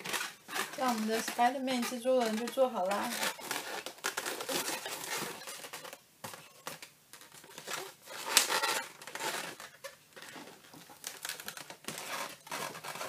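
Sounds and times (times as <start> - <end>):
balloons rubbing and crackling: 0.0 - 13.0.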